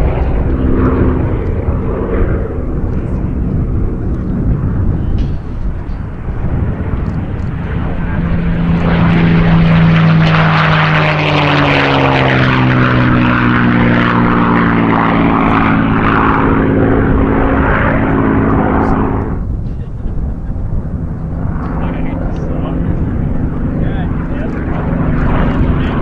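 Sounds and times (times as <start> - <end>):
propeller airplane flying past: 0.0 - 26.0.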